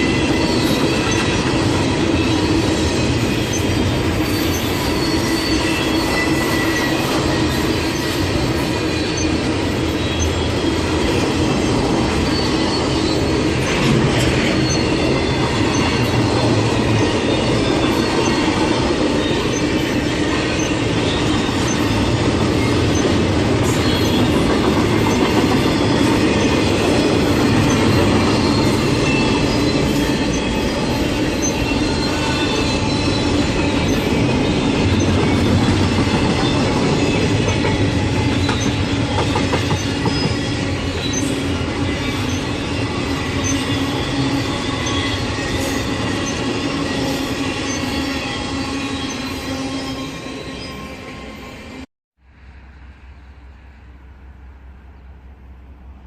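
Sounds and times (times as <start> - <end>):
high wheel squeal: 0.0 - 51.9
steel wheels rumbling on rail: 0.0 - 56.0.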